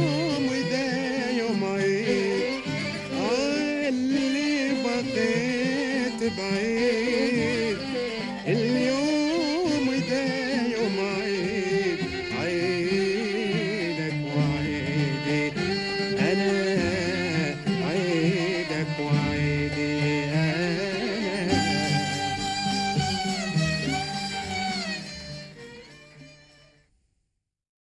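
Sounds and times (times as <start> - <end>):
oud violin and qanun ensemble: 0.0 - 26.7.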